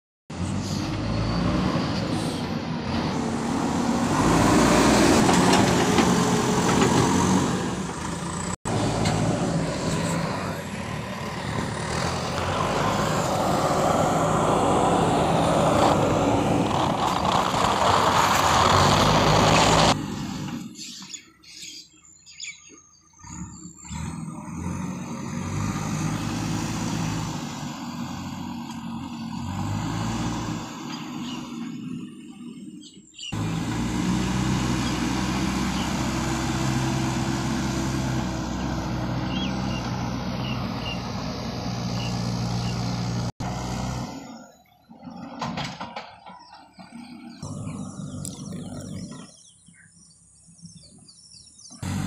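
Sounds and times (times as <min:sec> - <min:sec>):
diesel engine running: 0:00.3 - 0:21.1, 0:23.0 - 0:49.9, 0:51.7 - 0:52.0.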